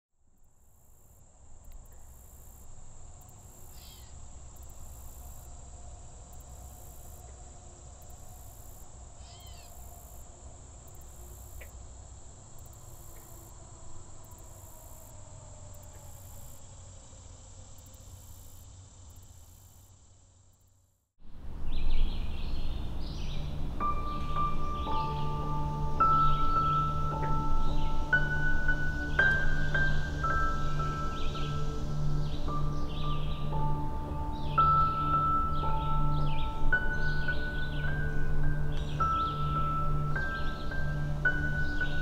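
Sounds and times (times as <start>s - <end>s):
insect chorus: 0.2s - 42.0s.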